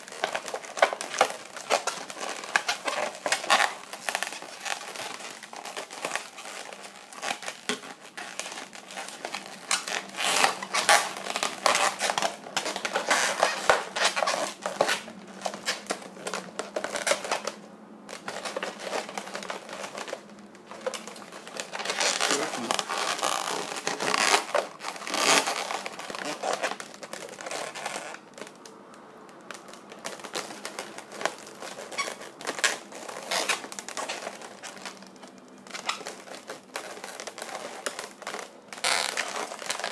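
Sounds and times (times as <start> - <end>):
balloons squeaking and rubbing: 0.0 - 28.6, 29.5 - 39.9.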